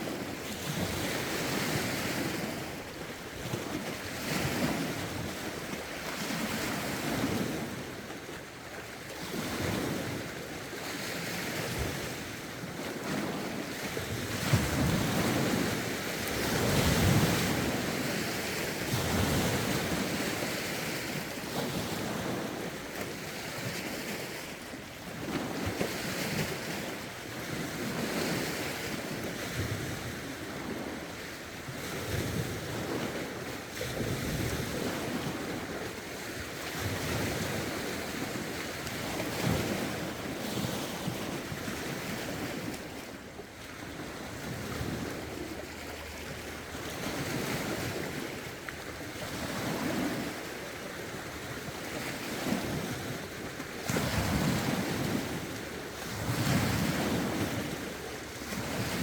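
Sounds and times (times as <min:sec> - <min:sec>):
lake waves washing on shore: 0:00.0 - 0:59.0.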